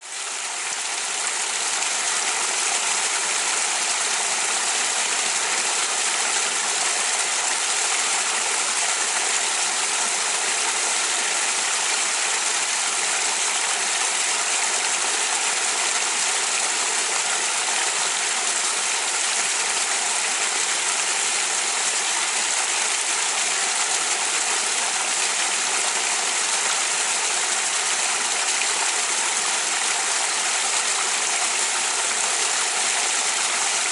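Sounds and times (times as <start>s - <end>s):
waterfall pouring and splashing: 0.0s - 33.9s.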